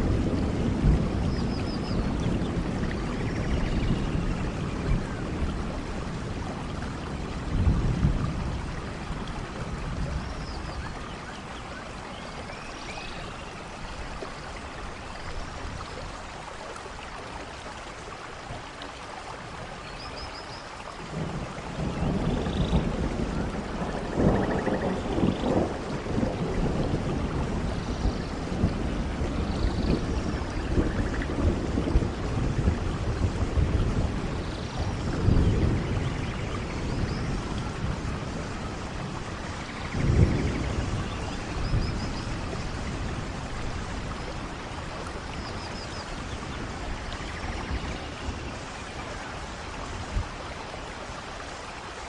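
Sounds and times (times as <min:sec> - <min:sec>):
low rolling thunder: 0:00.0 - 0:16.2, 0:21.1 - 0:51.6
steady rain: 0:00.0 - 0:52.0.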